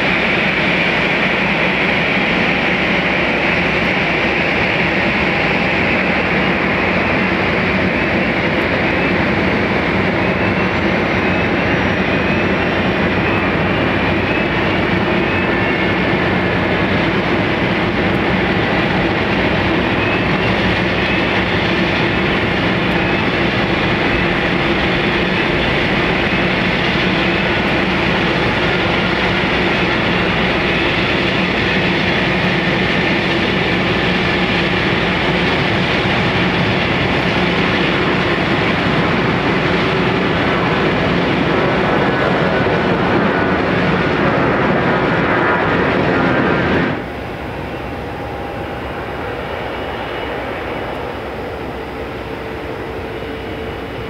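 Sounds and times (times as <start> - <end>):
aircraft turbines whining: 0.0 - 54.0
jet engines taxiing: 0.0 - 54.0.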